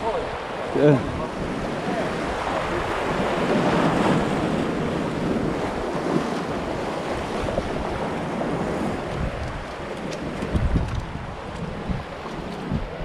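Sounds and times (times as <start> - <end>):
surf washing over rocks: 0.0 - 13.0
wind buffeting microphone: 0.0 - 13.0.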